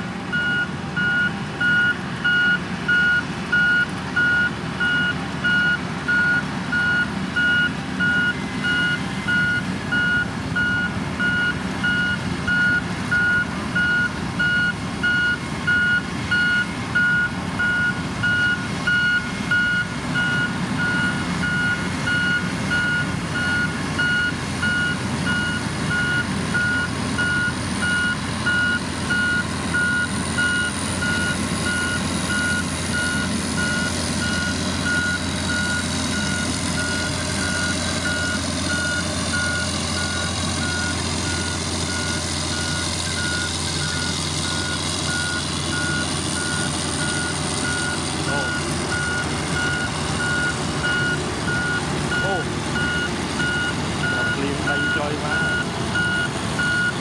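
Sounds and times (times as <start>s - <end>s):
low engine rumble: 0.0s - 57.0s
reversing alarm beeping: 0.3s - 57.0s.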